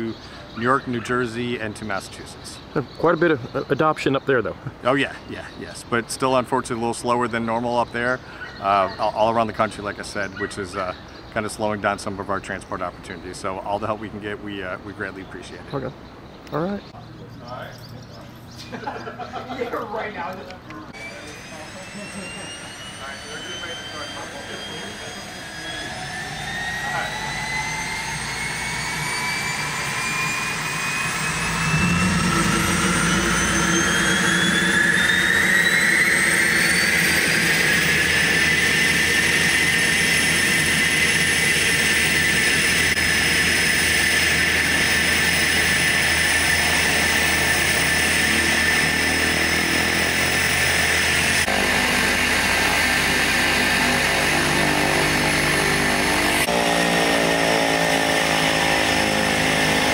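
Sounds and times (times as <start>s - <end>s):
turboprop engine whine: 0.0s - 59.9s.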